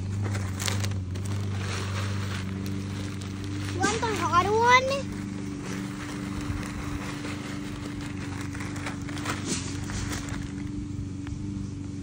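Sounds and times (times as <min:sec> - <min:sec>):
hands rustling potting soil: 0:00.0 - 0:11.4
soil crunches: 0:00.0 - 0:11.5
low mechanical hum: 0:00.0 - 0:12.0.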